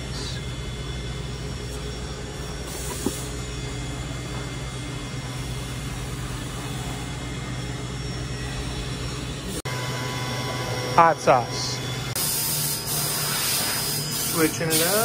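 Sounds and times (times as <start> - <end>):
workshop machinery hum and hiss: 0.0 - 15.0.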